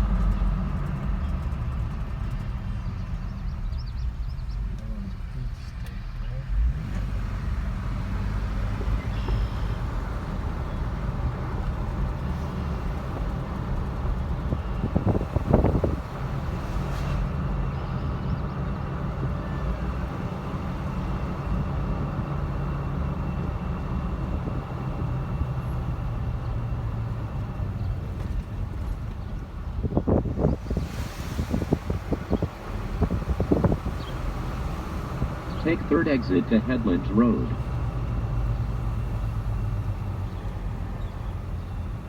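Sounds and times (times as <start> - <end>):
car road and engine rumble: 0.0 - 42.0.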